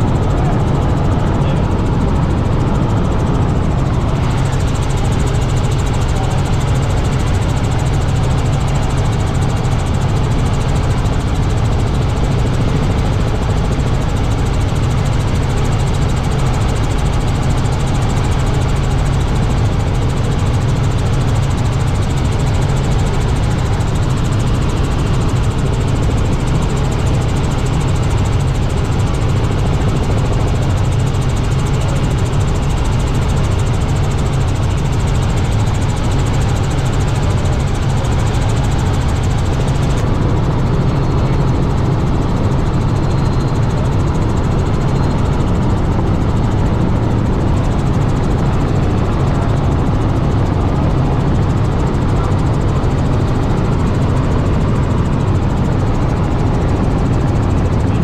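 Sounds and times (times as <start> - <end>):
helicopter engine and rotors drone: 0.0 - 58.0.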